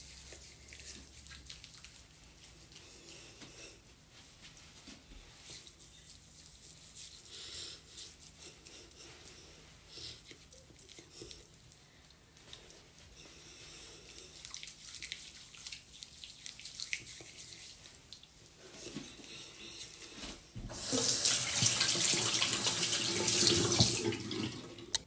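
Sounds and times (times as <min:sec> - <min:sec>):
wet hands rubbing cream on skin: 0:00.0 - 0:20.4.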